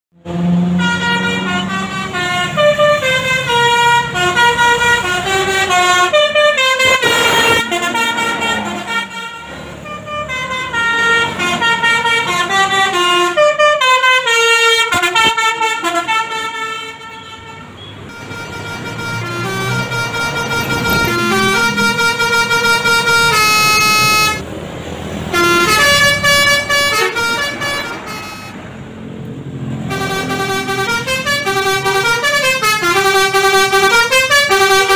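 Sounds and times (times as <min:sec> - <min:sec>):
musical bus horns: 0:00.2 - 0:34.9
passing bus traffic: 0:00.2 - 0:34.9.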